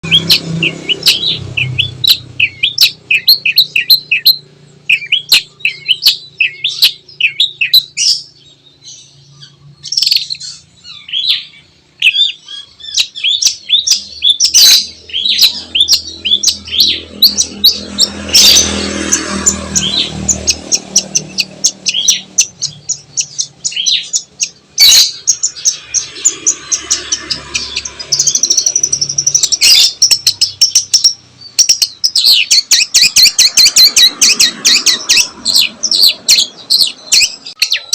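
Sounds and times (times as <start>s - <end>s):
bird chattering song: 0.0s - 37.9s.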